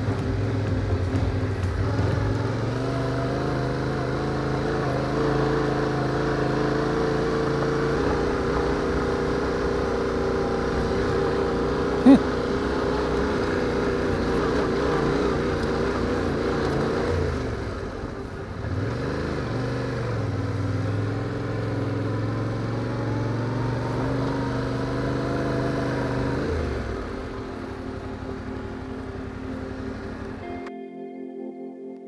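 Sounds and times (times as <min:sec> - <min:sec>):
motorcycle engine pulling: 0:00.0 - 0:30.5.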